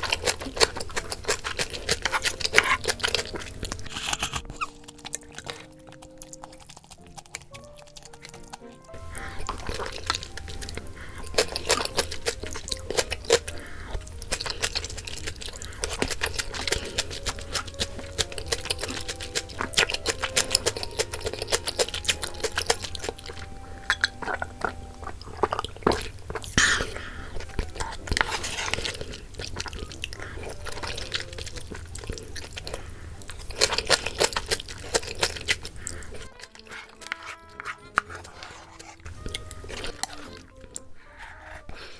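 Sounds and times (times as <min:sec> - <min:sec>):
chewing and crunching: 0:00.0 - 0:41.9
wet mouth noises: 0:00.0 - 0:41.9.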